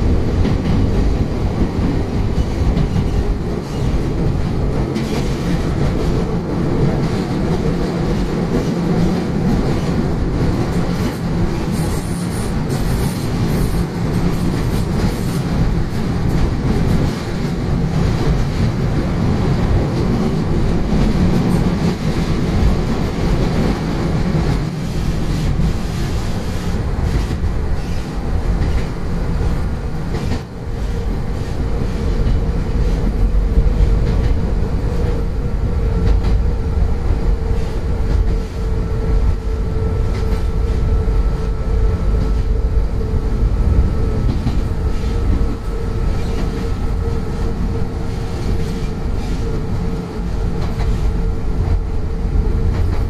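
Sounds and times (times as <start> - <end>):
train wheels rumbling over rails: 0.0 - 53.0.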